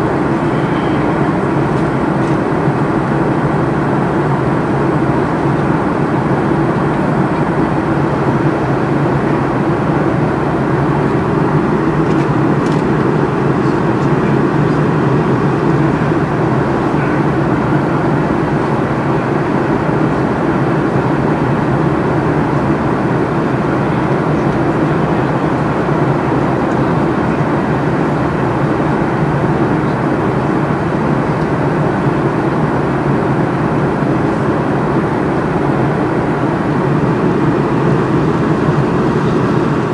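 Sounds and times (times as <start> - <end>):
jet airliner cabin noise: 0.0 - 39.9.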